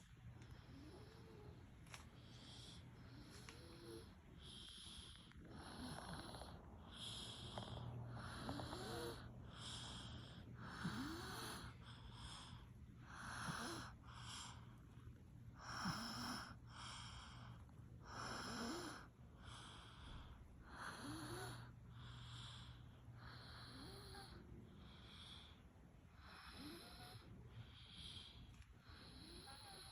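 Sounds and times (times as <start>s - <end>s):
child snoring softly: 0.6s - 1.6s, 2.2s - 14.7s, 15.6s - 29.9s.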